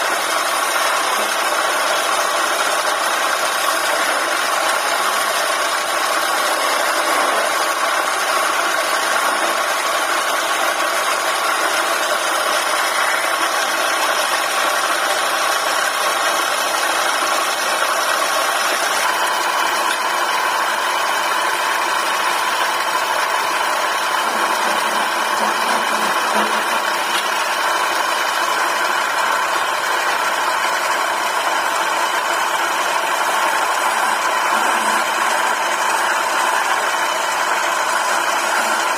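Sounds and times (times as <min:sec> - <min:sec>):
chisel cutting spinning wood: 0:00.0 - 0:38.9
wood lathe running: 0:00.0 - 0:38.9.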